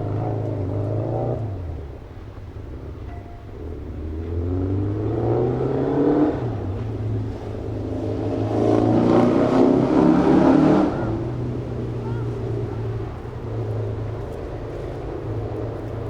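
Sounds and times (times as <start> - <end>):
low engine hum: 0.0 - 16.0
vehicles accelerating past: 0.0 - 16.0.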